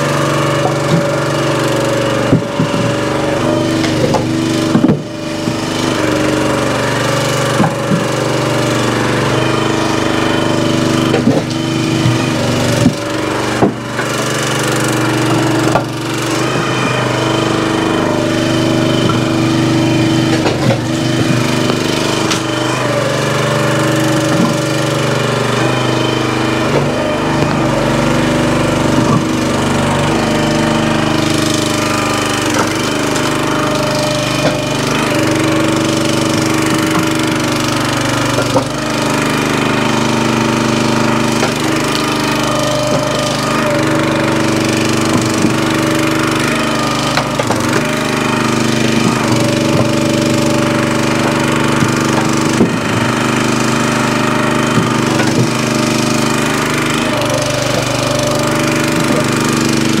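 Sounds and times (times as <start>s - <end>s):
log splitter engine running: 0.0s - 60.0s
wood splitting cracks: 0.2s - 60.0s.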